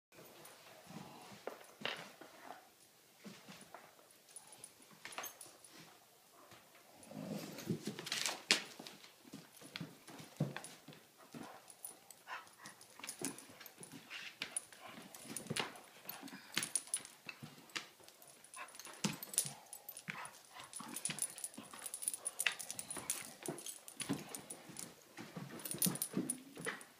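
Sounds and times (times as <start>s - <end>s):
dogs playing roughly: 4.3s - 26.9s.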